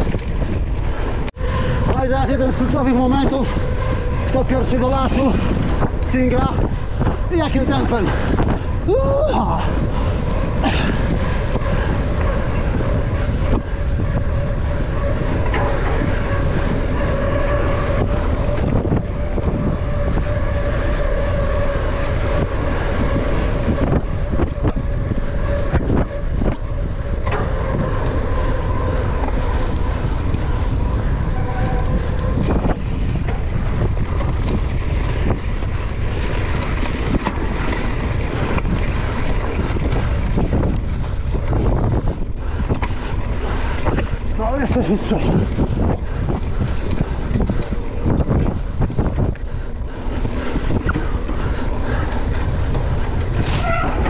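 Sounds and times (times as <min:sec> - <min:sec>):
wind rushing over microphone: 0:00.0 - 0:54.0
bike knocks and rattles: 0:09.8 - 0:54.0.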